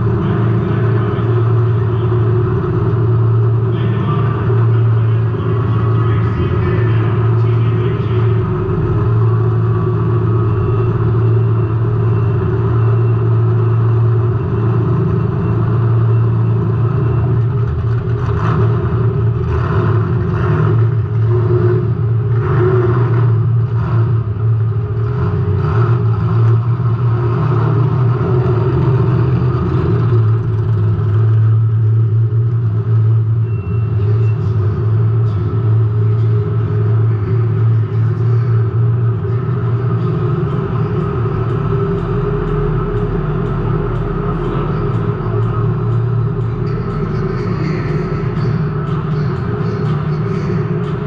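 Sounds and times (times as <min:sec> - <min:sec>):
race car engine running: 0:00.0 - 0:51.0
rushing noise and clatter: 0:00.0 - 0:51.0.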